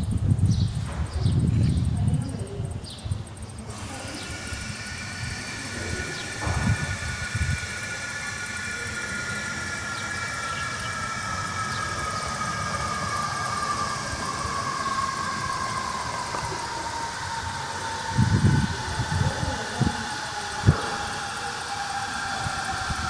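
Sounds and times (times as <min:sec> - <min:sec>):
distant engine drone: 0:00.0 - 0:23.0.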